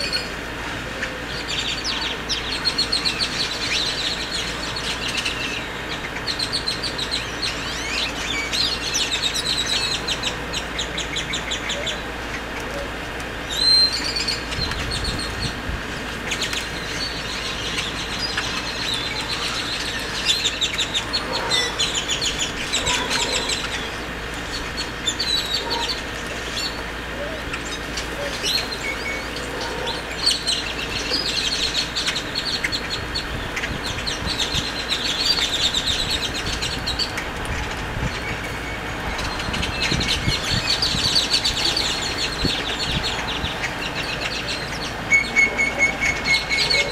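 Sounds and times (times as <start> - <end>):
grackles calling: 1.2 - 46.9.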